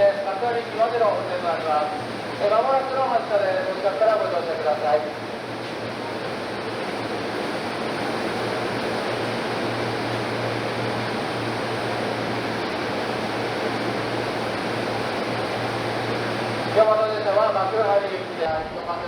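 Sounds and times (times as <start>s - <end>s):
idling train low hum: 0.0s - 19.0s.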